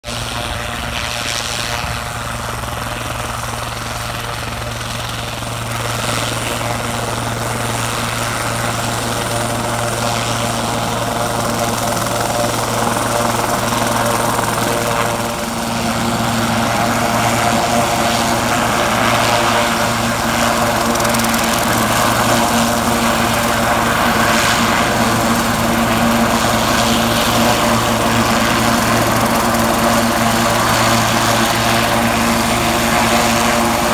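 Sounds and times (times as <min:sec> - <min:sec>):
helicopter engines and rotors: 0:00.0 - 0:33.9.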